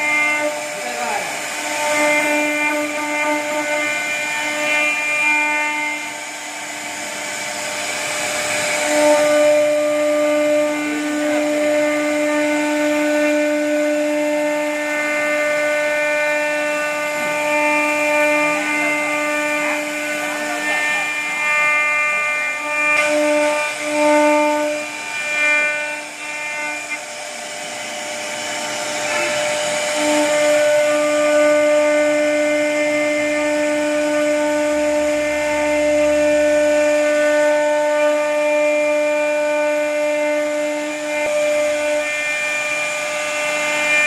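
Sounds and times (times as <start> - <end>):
bit cutting wood: 0.0 - 44.0
router spindle whining: 0.0 - 44.0.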